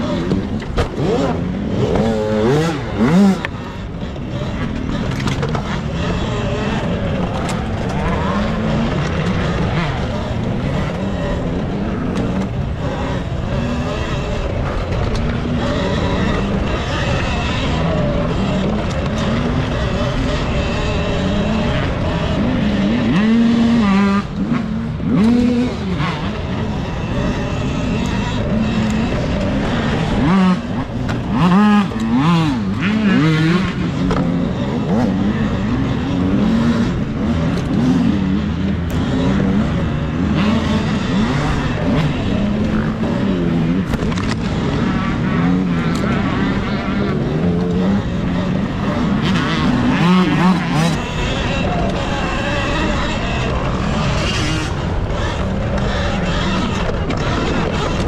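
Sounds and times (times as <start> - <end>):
steady rush of noise: 0.0 - 58.0.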